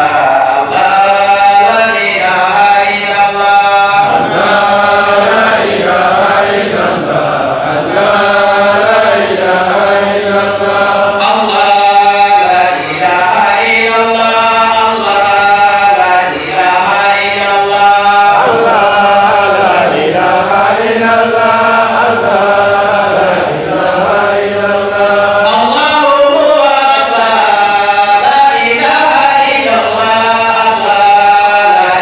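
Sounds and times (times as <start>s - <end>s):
man chanting devotional song: 0.0s - 32.0s.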